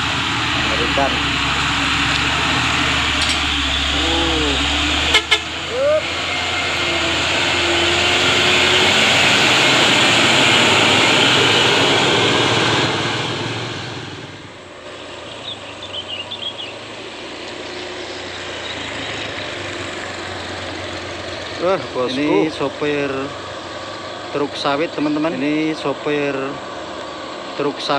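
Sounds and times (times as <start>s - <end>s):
diesel engine noise from farther off: 0.0s - 27.9s
dump truck passing close: 0.0s - 27.9s.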